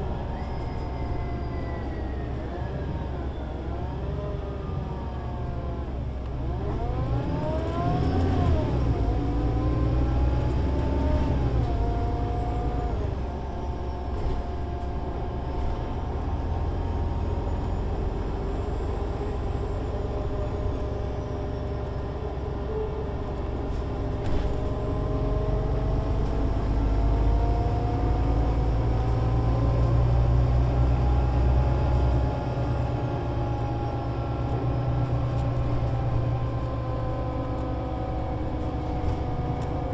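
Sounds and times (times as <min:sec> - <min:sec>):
bus diesel engine pulling away: 0:00.0 - 0:39.9.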